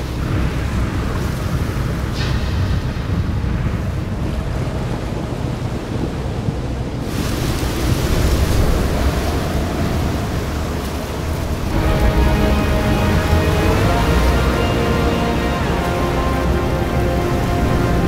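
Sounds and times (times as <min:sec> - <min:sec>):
deep rumbling wind: 0:00.0 - 0:18.0.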